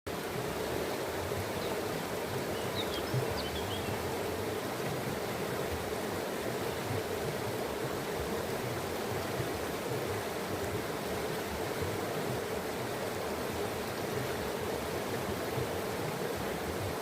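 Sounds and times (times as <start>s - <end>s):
stream water rushing: 0.1s - 17.0s.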